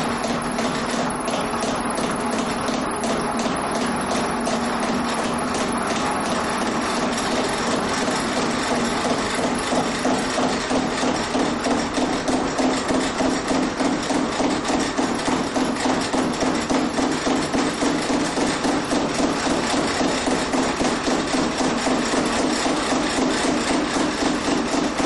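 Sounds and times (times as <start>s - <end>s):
rapid mechanical knocks: 0.0s - 25.0s
steady machine hum: 0.0s - 25.0s.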